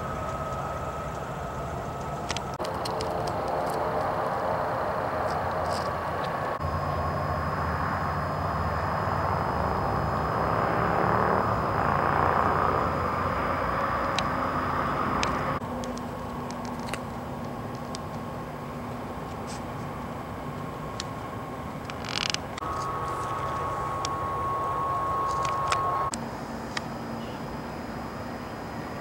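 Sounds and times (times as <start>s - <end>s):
jet engines rushing: 0.0s - 29.0s
steady engine hum: 0.0s - 29.0s.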